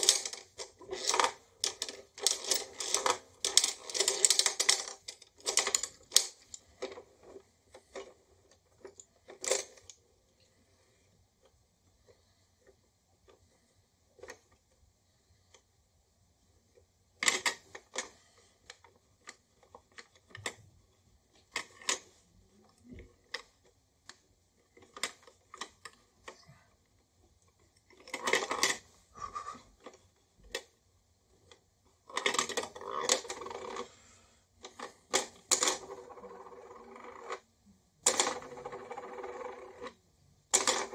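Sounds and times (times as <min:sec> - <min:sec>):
plastic toy clicking and rattling: 0:00.0 - 0:10.0, 0:14.2 - 0:14.8, 0:16.7 - 0:33.9, 0:34.6 - 0:40.9.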